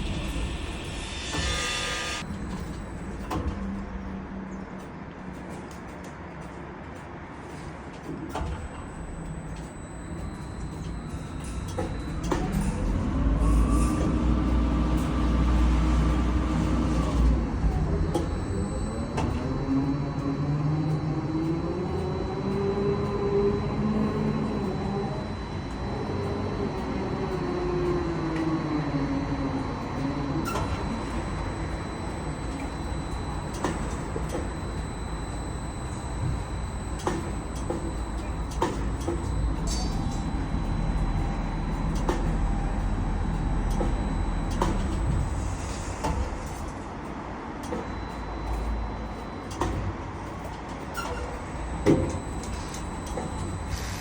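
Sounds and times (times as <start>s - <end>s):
crane machinery rumbling and whining: 0.0s - 54.0s.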